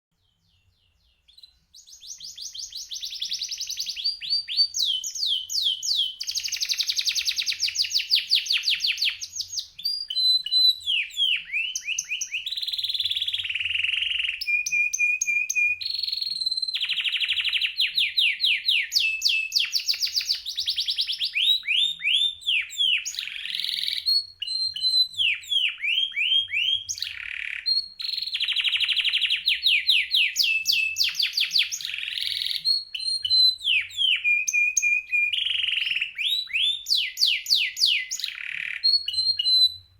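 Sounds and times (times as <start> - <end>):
canary singing trills: 0.1 - 39.9.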